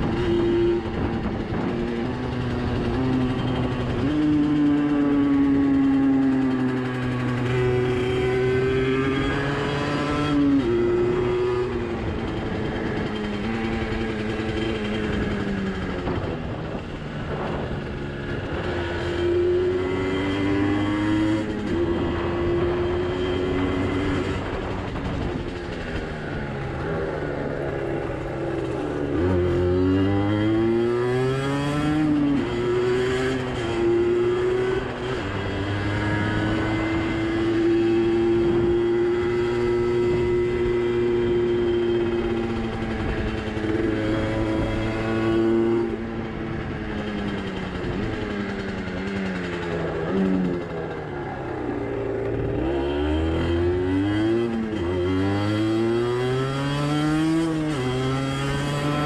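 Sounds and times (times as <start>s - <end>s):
two-stroke motorcycle engine running: 0.0s - 59.0s.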